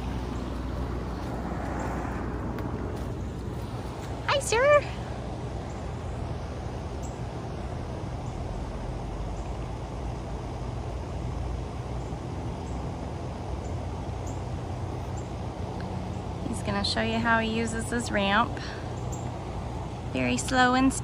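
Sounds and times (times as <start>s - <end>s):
low mechanical hum: 0.0s - 21.0s
rushing background noise: 0.0s - 21.0s.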